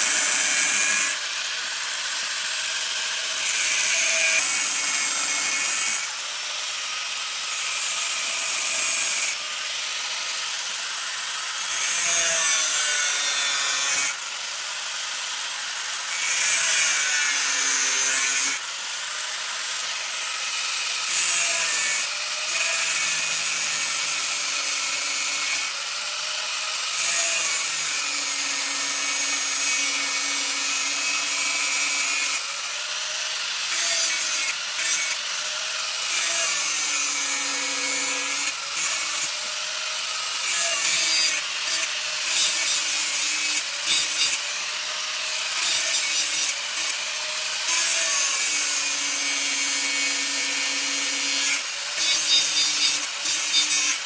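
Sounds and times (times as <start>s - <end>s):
electric grinder grinding steel: 0.0s - 54.0s.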